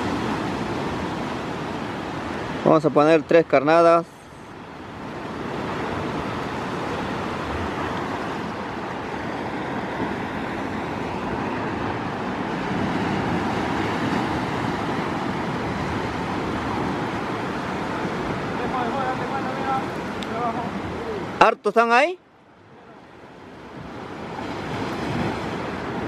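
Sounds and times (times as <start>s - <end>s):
surf washing over rocks: 0.0s - 26.0s.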